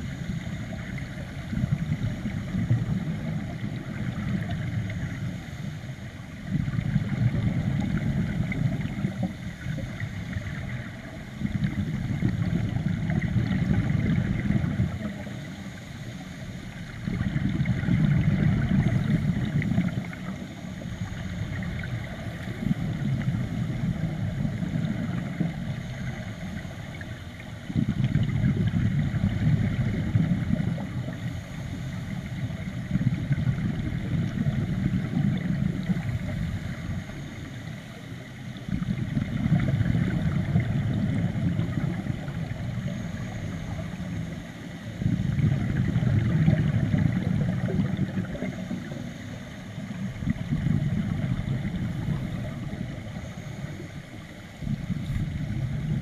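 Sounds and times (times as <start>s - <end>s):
exhaled bubbles rumbling underwater: 0.0s - 56.0s.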